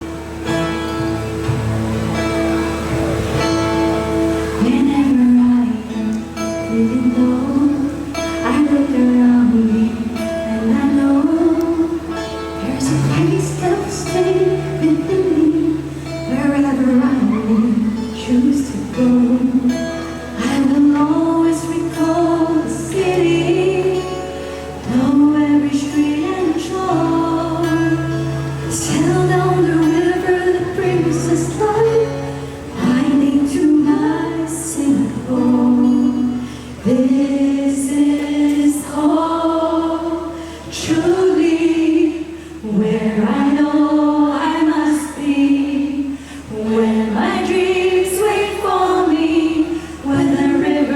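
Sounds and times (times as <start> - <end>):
vocal group singing in harmony: 4.6 - 50.9.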